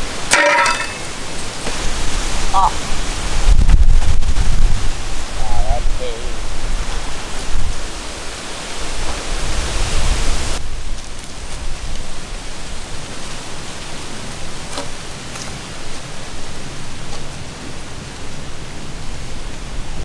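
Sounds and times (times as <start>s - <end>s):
steady rushing outdoor noise: 0.0s - 20.0s.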